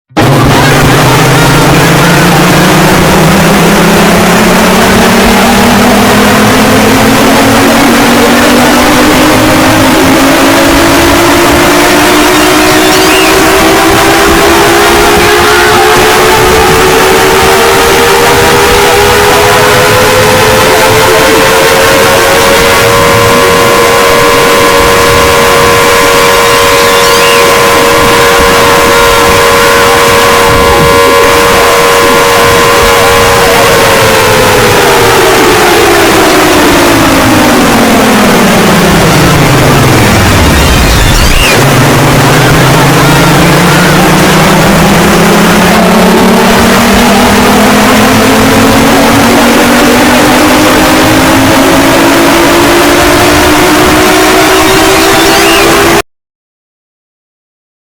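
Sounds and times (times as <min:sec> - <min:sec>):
distorted emergency alarm tone: 0:00.1 - 0:56.0.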